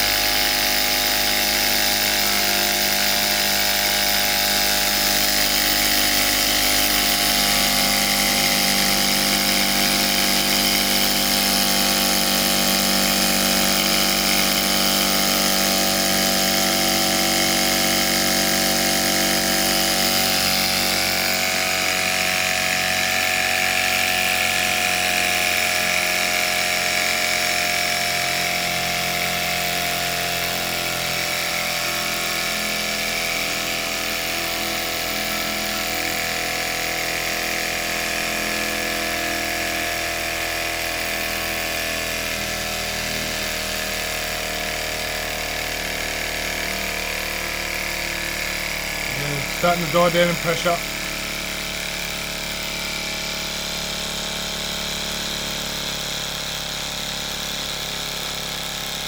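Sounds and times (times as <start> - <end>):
miniature steam engine whirring: 0.0 - 38.8, 45.5 - 59.0.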